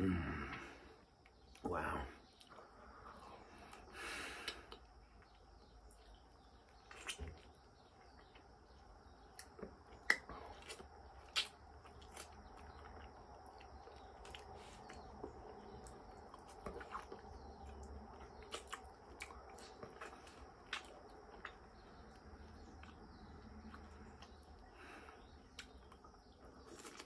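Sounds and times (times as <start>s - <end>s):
wet chewing and mouth smacks: 2.3s - 27.0s.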